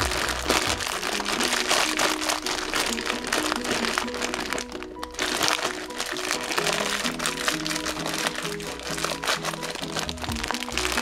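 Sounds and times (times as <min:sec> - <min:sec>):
background music with light beat: 0:00.0 - 0:11.0.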